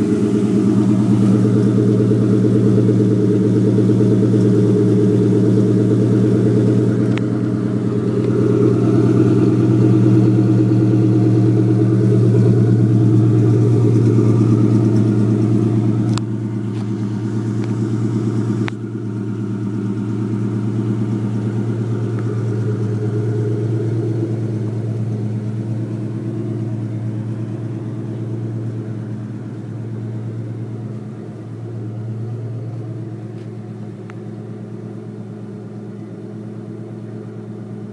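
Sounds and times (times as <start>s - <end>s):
car engine idling with exhaust burble: 0.0s - 37.9s.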